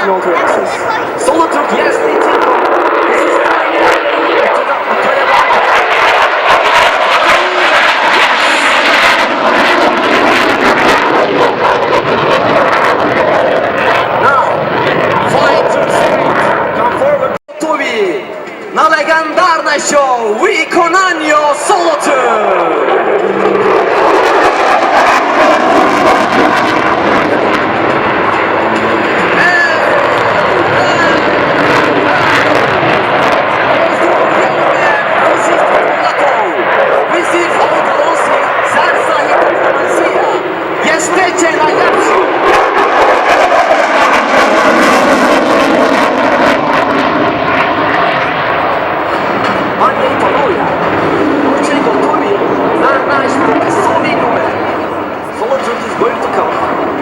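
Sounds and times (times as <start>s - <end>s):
fighter jet engine roar: 0.0s - 57.0s.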